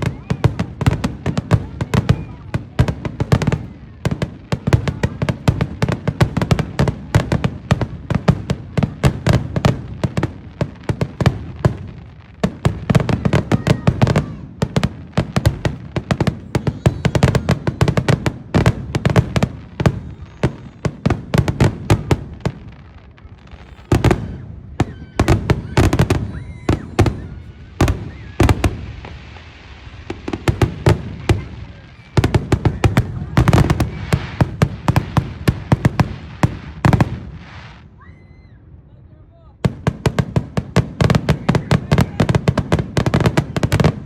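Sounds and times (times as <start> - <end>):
fireworks crackling and banging: 0.0 - 38.3, 39.6 - 44.0.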